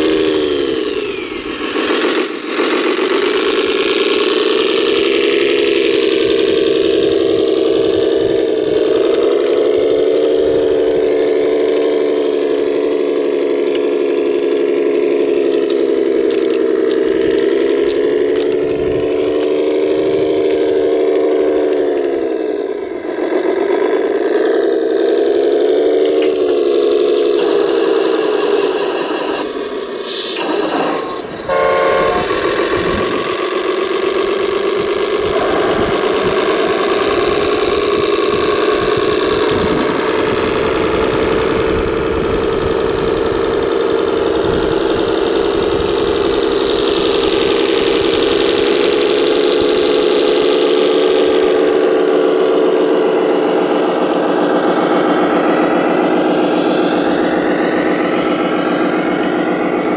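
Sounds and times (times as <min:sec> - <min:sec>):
toy vehicle motor humming: 0:00.0 - 0:59.9.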